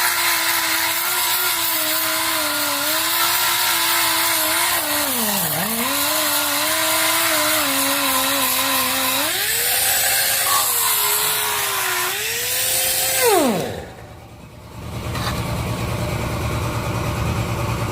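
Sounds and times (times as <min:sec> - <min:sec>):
pneumatic grinder whine: 0:00.0 - 0:17.6.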